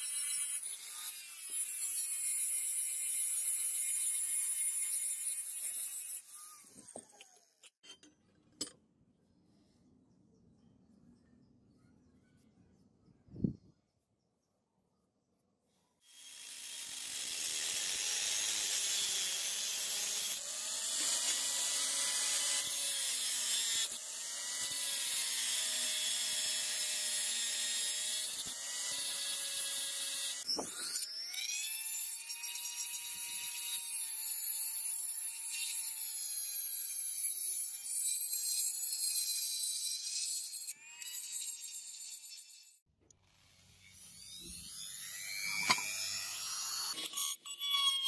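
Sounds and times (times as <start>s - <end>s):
angle grinder cutting steel: 0.0s - 7.8s, 16.1s - 42.8s, 43.4s - 48.0s
rotary tool high whine: 0.0s - 7.8s, 16.1s - 48.0s.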